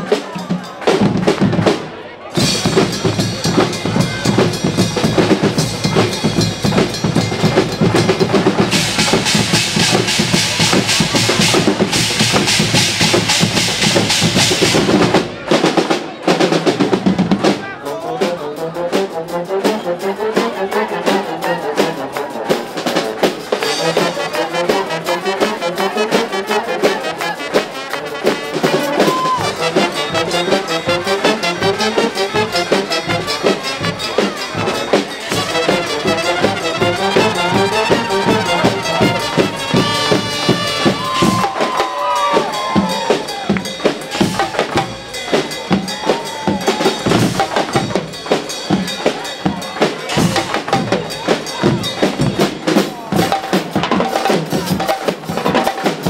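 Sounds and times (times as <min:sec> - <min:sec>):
brass and drum band playing: 0:00.0 - 0:56.0.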